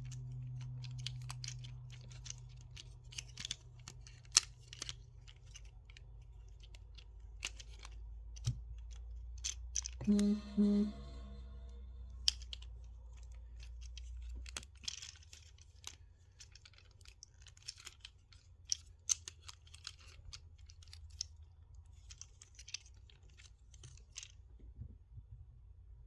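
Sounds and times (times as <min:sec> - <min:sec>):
plastic toy parts clicking: 0:00.0 - 0:10.2, 0:12.2 - 0:24.4.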